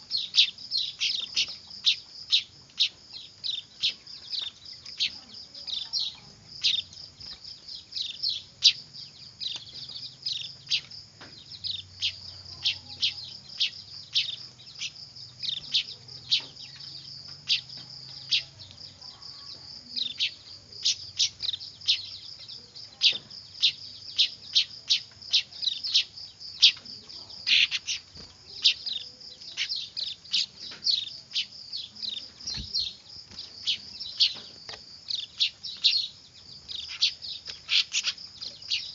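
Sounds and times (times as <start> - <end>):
young birds begging chirps: 0.0 - 38.9.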